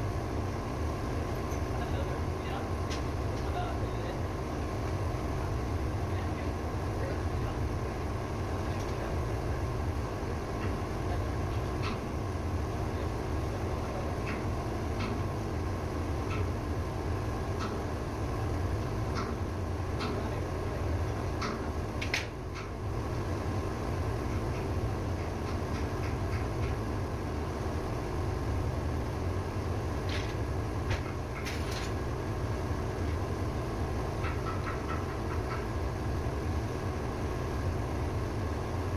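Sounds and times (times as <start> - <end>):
engine low rumble: 0.0 - 38.9
faint steady whine: 0.0 - 38.9.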